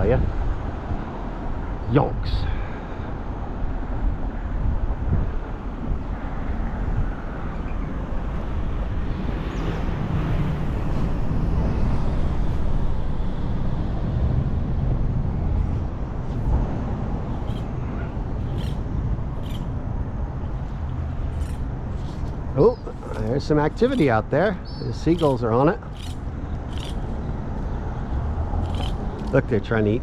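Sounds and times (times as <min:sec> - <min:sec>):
road traffic: 0:00.0 - 0:30.0
wind: 0:00.0 - 0:30.0.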